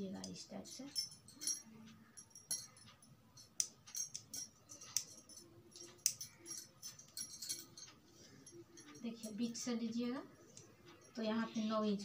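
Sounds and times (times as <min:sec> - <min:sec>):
bangles clinking: 0:00.0 - 0:12.0.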